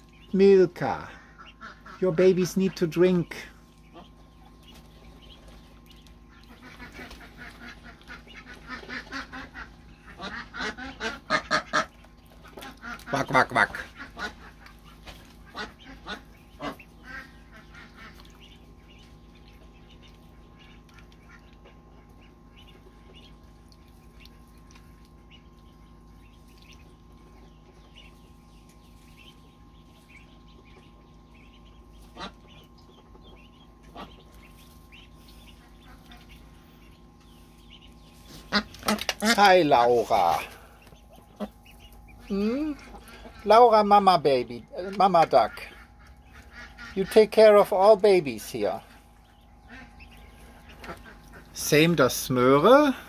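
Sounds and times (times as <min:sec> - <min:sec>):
ducklings peeping: 0:00.0 - 0:53.0
steady low hum: 0:00.0 - 0:53.0
duck calls: 0:00.9 - 0:04.4, 0:05.2 - 0:23.4, 0:30.1 - 0:37.0, 0:37.6 - 0:43.9, 0:44.6 - 0:53.0.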